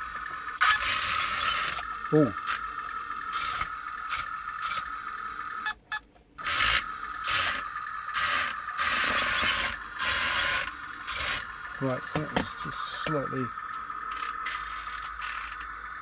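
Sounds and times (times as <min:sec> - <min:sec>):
gearbox scraping pulse: 0:00.0 - 0:16.0
toy tank motors whining: 0:00.0 - 0:16.0.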